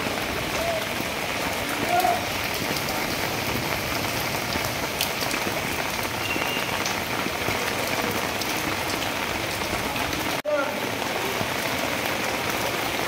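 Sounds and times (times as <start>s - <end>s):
heavy rain on standing water: 0.0s - 13.0s.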